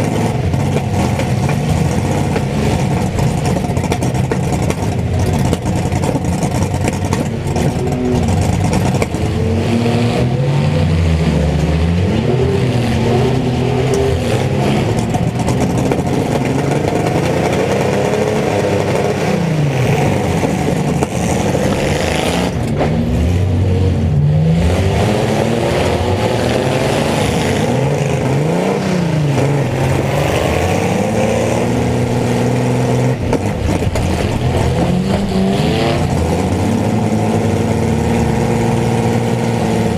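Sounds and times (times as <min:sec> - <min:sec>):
engine clatter: 0:00.0 - 0:39.9
small truck engines revving: 0:00.0 - 0:39.9.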